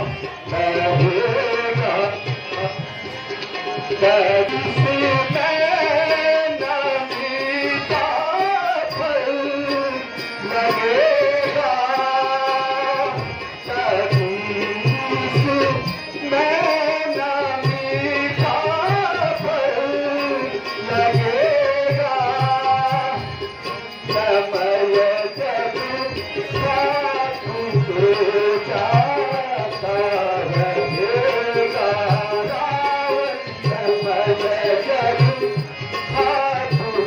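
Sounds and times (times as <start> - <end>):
man singing: 0.0 - 37.0.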